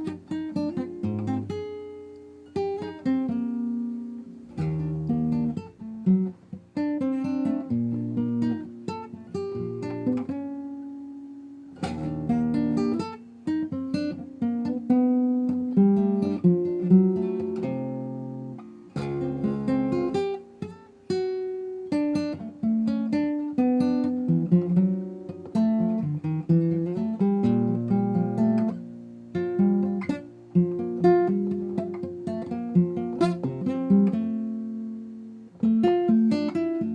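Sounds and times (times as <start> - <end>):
acoustic guitar plucking: 0.0 - 36.9.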